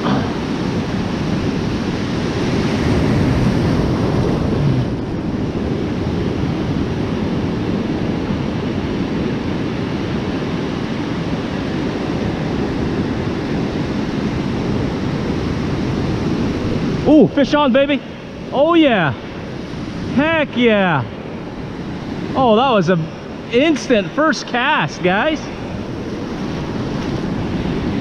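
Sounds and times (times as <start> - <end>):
ocean surf washing on beach: 0.0 - 28.0
wind buffeting microphone: 0.0 - 28.0.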